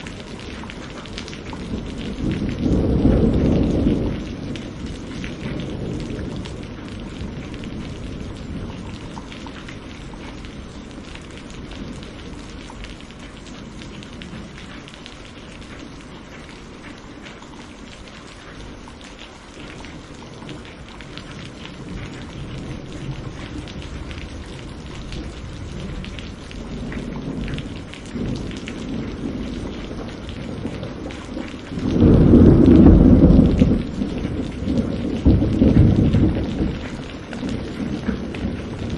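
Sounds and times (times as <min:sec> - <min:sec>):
thunder rumbling: 0:00.0 - 0:18.8, 0:19.6 - 0:38.9
steady rain: 0:00.0 - 0:38.9.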